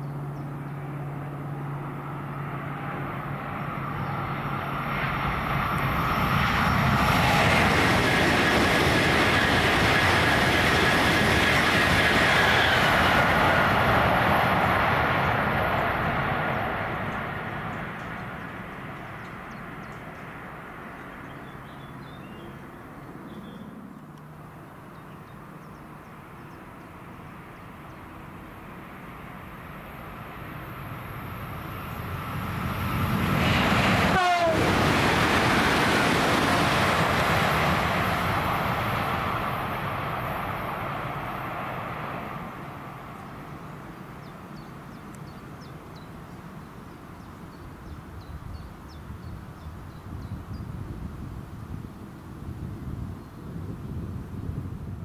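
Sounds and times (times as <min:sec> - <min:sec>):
high-speed train passing: 0:00.0 - 0:55.0
second train approaching: 0:00.0 - 0:55.0.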